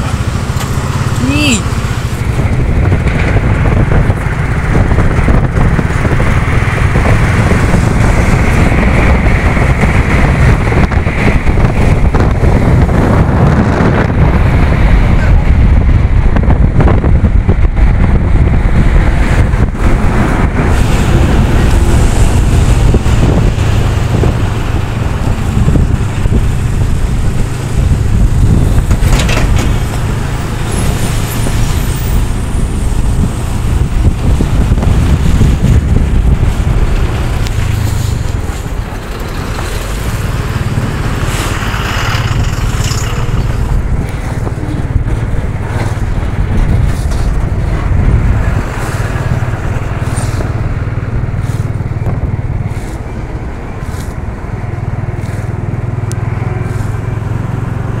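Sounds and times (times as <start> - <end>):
lorries road noise: 0.0 - 58.0
motorbike engine: 0.0 - 58.0
wind buffeting microphone: 0.0 - 58.0.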